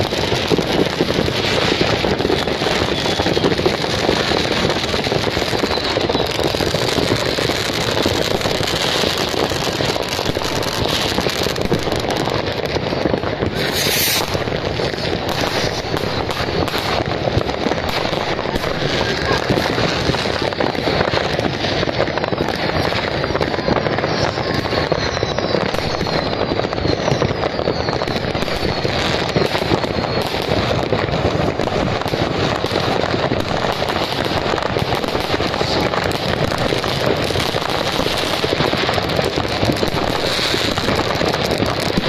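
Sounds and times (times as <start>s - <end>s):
firework whistles falling in pitch: 0.0s - 42.0s
fireworks crackling barrage: 0.0s - 42.0s.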